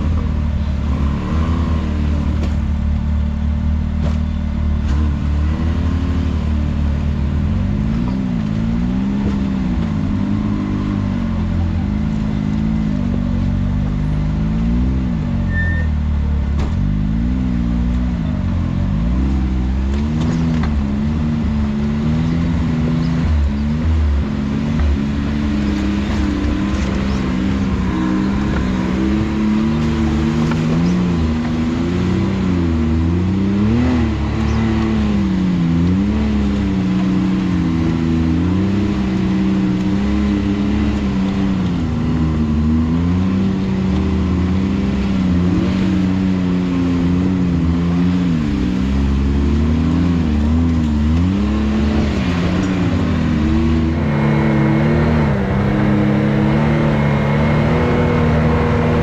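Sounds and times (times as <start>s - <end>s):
engine revving under load: 0.0s - 59.0s.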